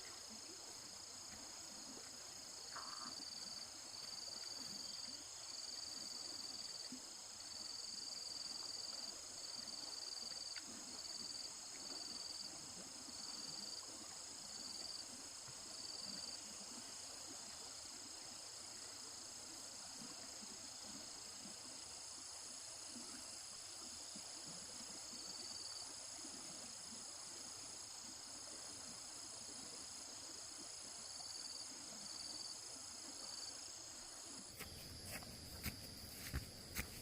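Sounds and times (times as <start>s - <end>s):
insects chirping: 0.0s - 37.0s.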